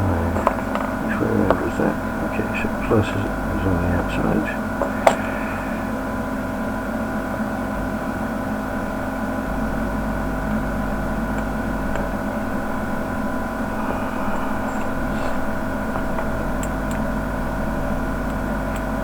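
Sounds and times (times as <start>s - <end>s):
electrical hum and whine: 0.0s - 19.0s.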